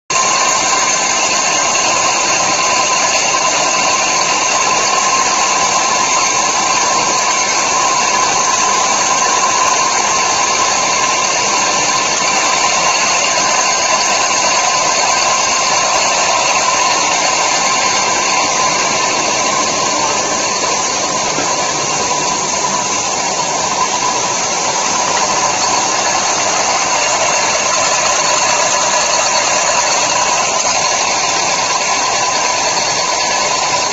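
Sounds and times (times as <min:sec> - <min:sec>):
machine running with high whine: 0:00.1 - 0:33.9.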